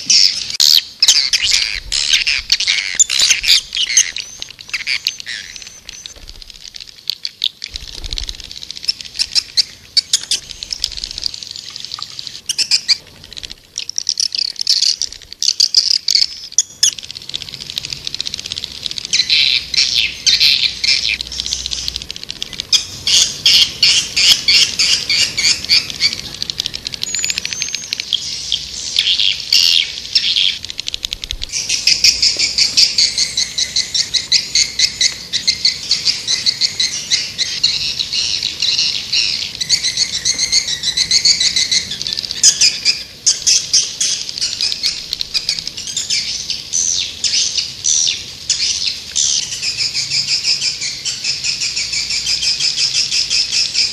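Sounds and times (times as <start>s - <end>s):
swiftlets twittering: 0.0s - 46.4s.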